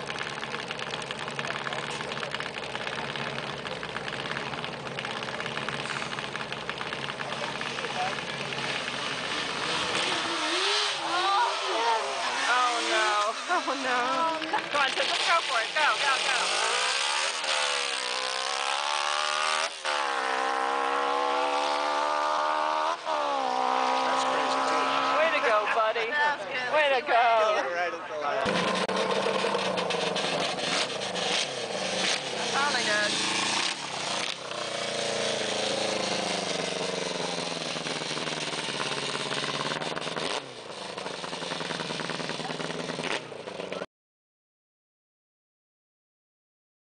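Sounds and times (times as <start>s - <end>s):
lawn mower engine at full throttle: 0.0s - 22.9s, 28.4s - 43.8s.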